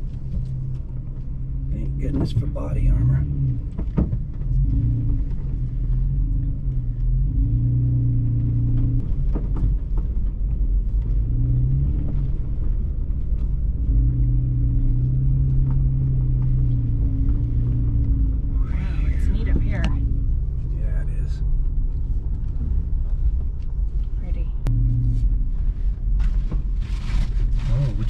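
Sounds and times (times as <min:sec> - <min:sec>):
truck engine at low revs: 0:00.0 - 0:28.0.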